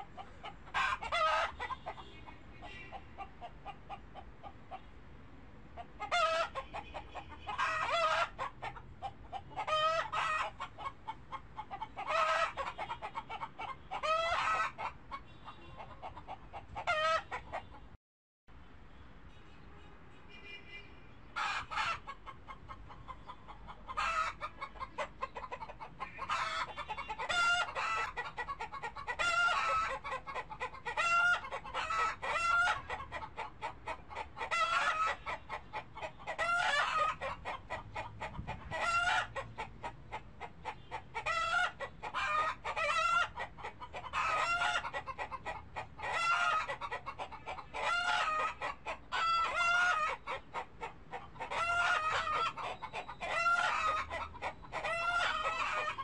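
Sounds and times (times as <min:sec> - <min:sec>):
chickens clucking: 0:00.0 - 0:05.0, 0:05.7 - 0:18.0, 0:21.3 - 0:56.0.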